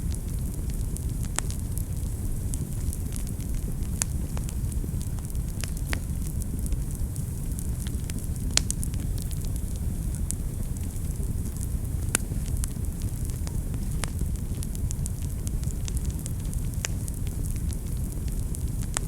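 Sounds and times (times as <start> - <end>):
fire crackling and popping: 0.0 - 19.0
fire flames rumbling: 0.0 - 19.0.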